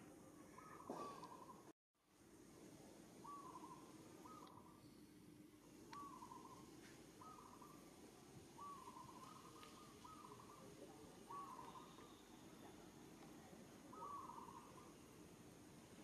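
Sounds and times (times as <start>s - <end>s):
faint bird calling: 0.4s - 1.7s, 3.2s - 5.2s, 5.9s - 16.0s.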